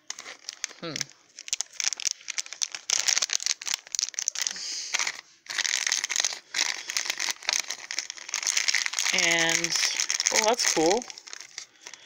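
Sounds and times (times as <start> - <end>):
packaging bag crinkling: 0.0 - 12.0.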